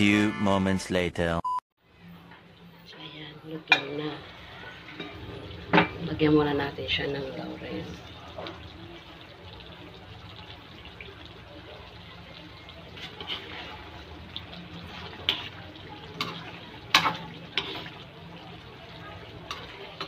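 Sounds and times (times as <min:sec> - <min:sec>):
food simmering in a wok: 0:01.8 - 0:20.0.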